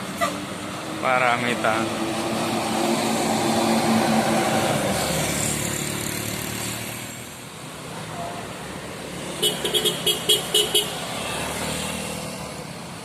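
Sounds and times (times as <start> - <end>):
bus engine passing: 0.0 - 13.0.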